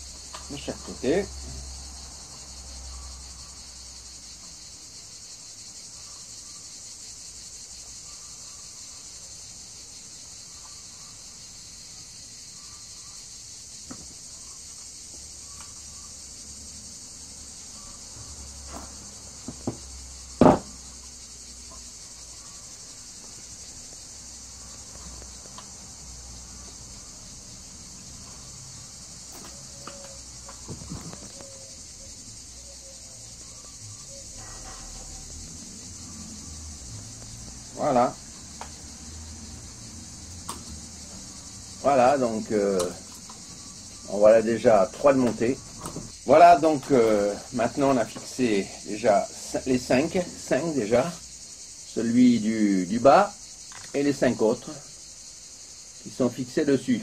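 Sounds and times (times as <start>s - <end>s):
high insect buzzing: 0.0s - 46.4s.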